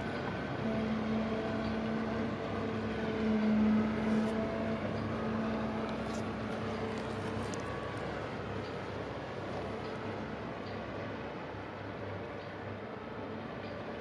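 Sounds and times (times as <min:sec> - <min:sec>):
barge diesel engine humming: 0:00.0 - 0:14.0.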